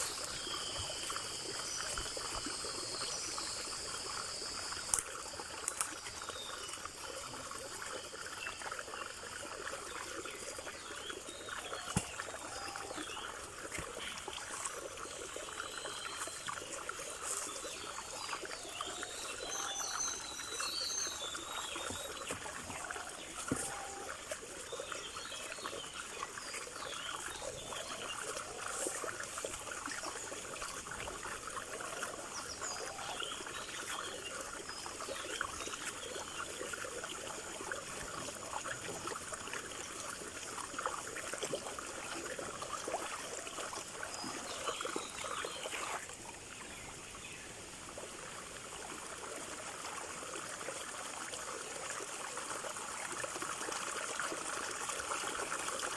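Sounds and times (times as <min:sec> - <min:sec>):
stream water trickling: 0:00.0 - 0:55.9.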